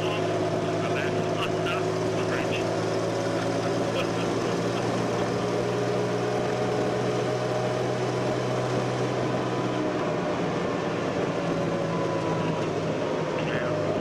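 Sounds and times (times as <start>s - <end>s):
road noise: 0.0s - 14.0s
vehicle engine droning: 0.0s - 14.0s.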